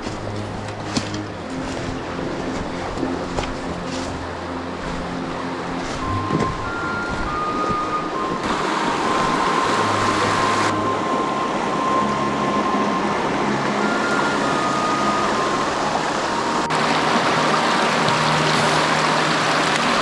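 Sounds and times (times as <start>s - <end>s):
brook water rushing: 0.0s - 20.0s.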